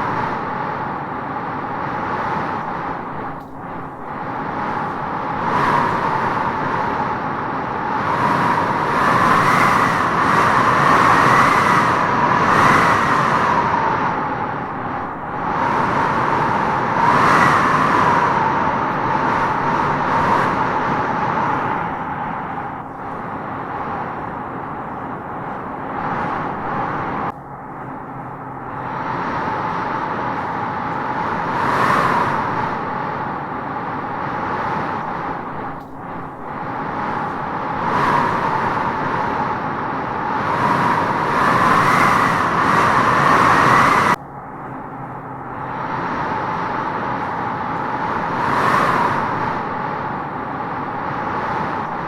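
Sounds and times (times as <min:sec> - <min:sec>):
wind howling in gusts: 0:00.0 - 0:52.0.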